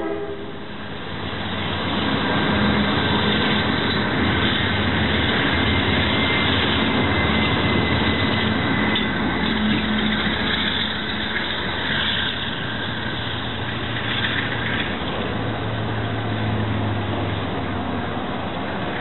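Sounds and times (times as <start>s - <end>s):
diesel locomotive engine drone: 0.0s - 19.0s
rail noise: 0.0s - 19.0s.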